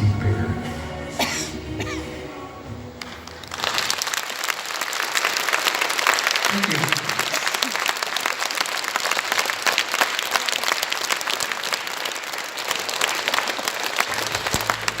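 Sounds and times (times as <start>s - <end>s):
audience applauding: 3.0s - 15.0s.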